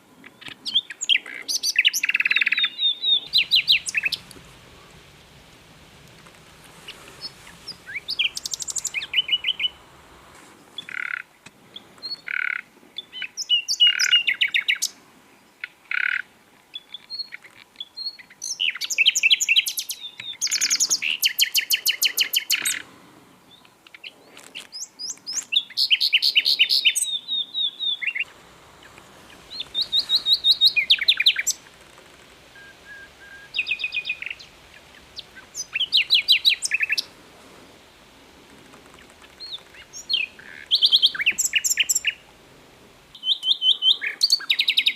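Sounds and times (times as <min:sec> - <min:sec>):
nightingale singing trills: 0:00.0 - 0:37.2, 0:37.8 - 0:42.4, 0:43.0 - 0:44.9.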